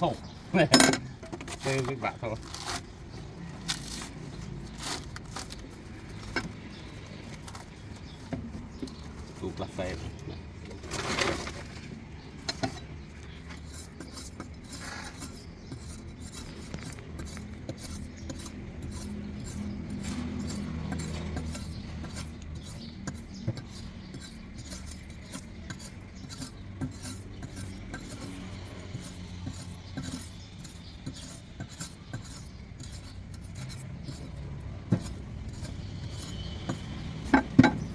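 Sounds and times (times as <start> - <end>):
knife scraping coconut: 0.0 - 10.2, 10.8 - 37.9.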